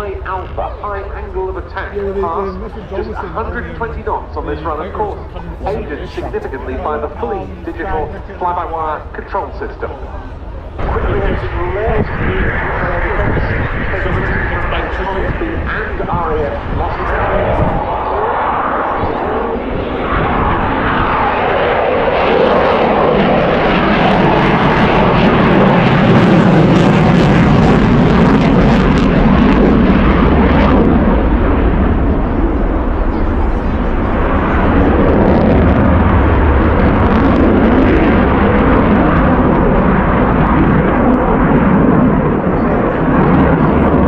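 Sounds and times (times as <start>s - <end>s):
loud jet engine noise: 0.0s - 44.0s.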